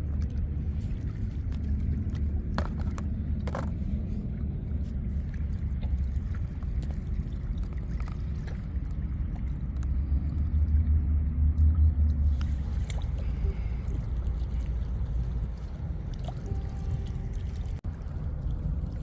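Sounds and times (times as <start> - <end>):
steady low rumble: 0.0 - 19.0
water sloshing and gurgling: 0.0 - 19.0.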